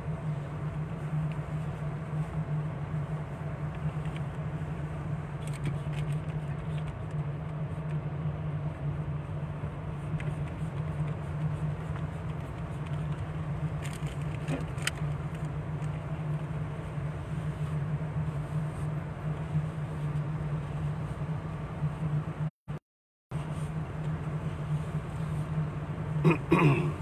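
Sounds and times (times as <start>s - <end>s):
car engine and road noise: 0.0s - 22.5s, 23.4s - 27.0s.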